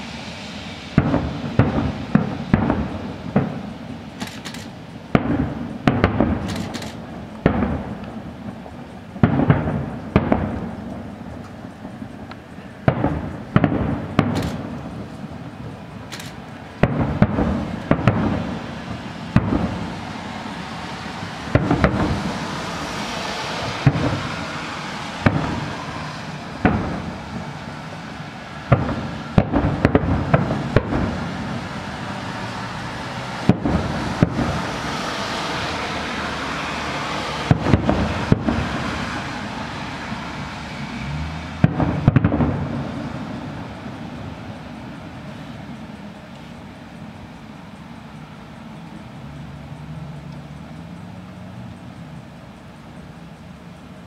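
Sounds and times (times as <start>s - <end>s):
continuous noisy haze: 0.0s - 54.0s
firework shells bursting: 0.1s - 35.7s, 37.0s - 40.8s, 41.6s - 48.1s.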